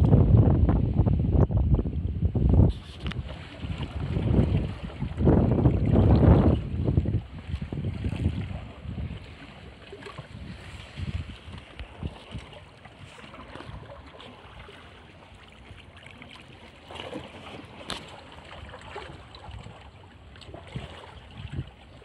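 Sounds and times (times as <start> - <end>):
wind rumble on microphone: 0.0 - 16.5, 17.1 - 22.0
waves lapping against rocks: 1.6 - 22.0.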